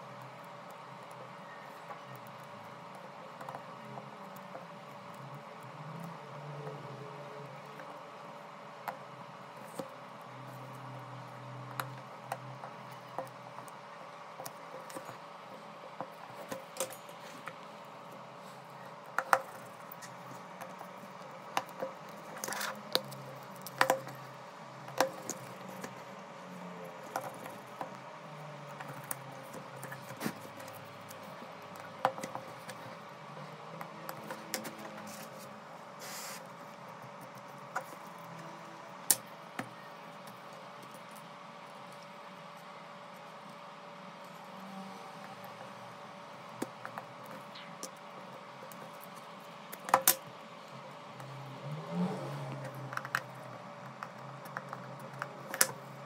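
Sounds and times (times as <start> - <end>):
steady faint hum: 0.0 - 56.0.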